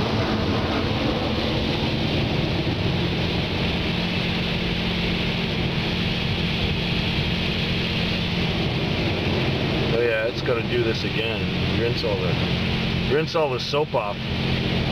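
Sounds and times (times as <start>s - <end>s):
car wash spray rushing: 0.0s - 14.9s
low hum: 0.0s - 14.9s.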